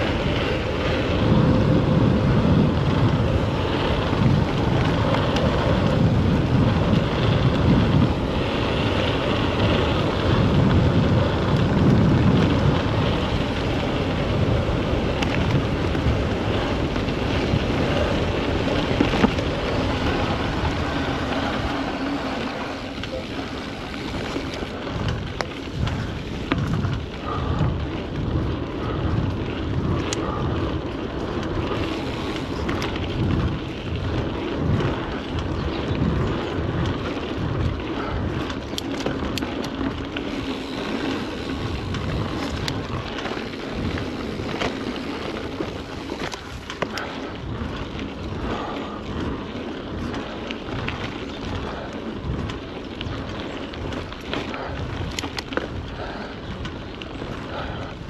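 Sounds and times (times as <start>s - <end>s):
bike clicks and rattles: 0.0s - 58.0s
wind buffeting microphone: 0.0s - 58.0s.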